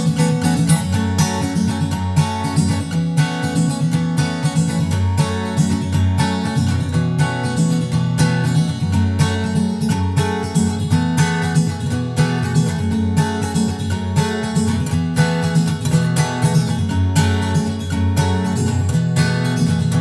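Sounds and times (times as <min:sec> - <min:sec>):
acoustic guitar plucked notes: 0:00.0 - 0:20.0.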